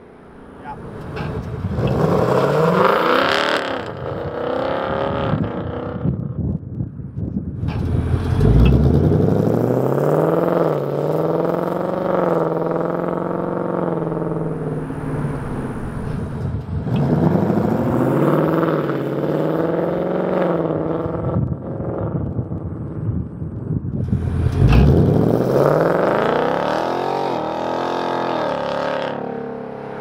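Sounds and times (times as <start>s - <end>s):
car engine revving: 0.0s - 6.3s, 7.6s - 23.4s, 24.0s - 30.0s.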